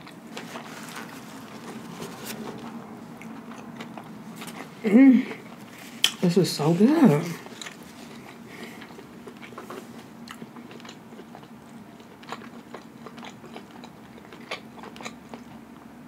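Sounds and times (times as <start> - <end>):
person chewing food: 0.0 - 6.2, 7.4 - 15.9
faint steady hum: 0.0 - 16.0.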